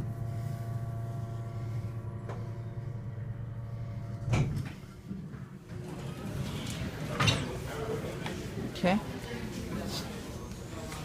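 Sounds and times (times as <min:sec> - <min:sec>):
elevator machinery humming: 0:00.0 - 0:11.0.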